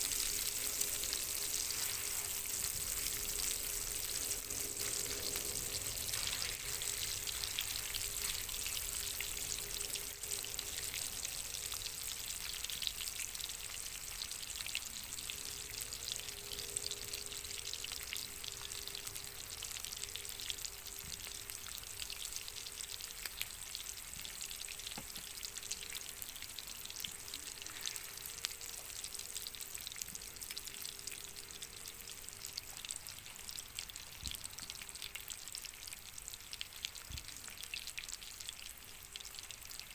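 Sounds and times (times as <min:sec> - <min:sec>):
steak sizzling in a pan: 0:00.0 - 0:39.9.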